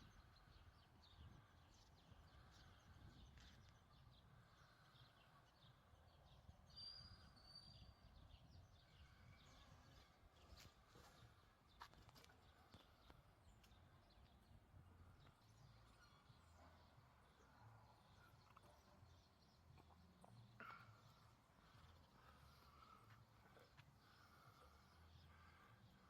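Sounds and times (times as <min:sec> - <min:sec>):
faint outdoor ambience: 0:00.0 - 0:26.0.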